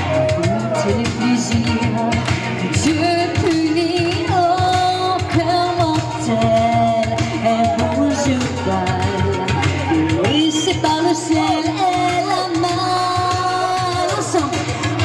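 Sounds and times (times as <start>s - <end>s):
backing music with steady beat: 0.0s - 15.0s
woman singing into microphone: 0.0s - 15.0s.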